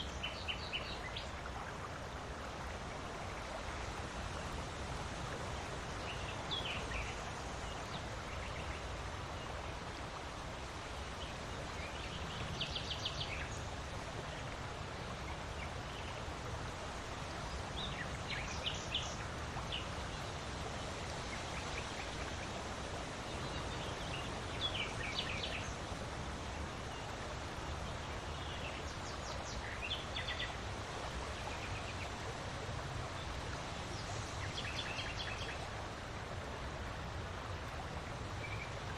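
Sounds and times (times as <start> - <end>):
steady wind: 0.0 - 38.9.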